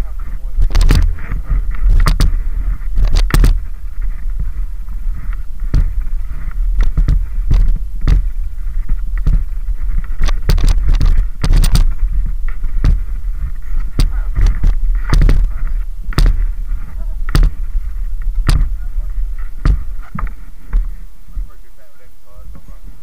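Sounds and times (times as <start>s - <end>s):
bike clattering over bumps: 0.0s - 21.6s
wind buffeting microphone: 0.0s - 21.6s.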